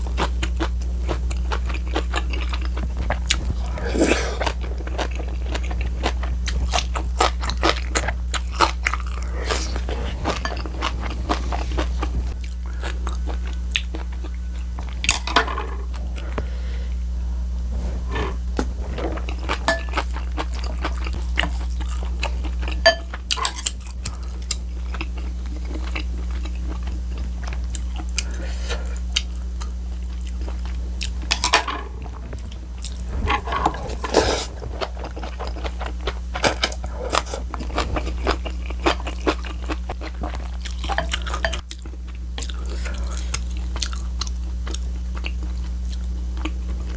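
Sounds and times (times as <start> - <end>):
low electrical hum: 0.0 - 46.9
person chewing and crunching food: 0.0 - 46.9.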